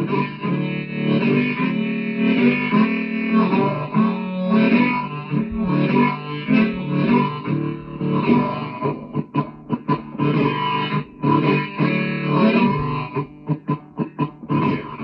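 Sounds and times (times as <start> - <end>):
choppy stabbed guitar chords: 0.0 - 15.0
electric guitar chords: 0.0 - 15.0.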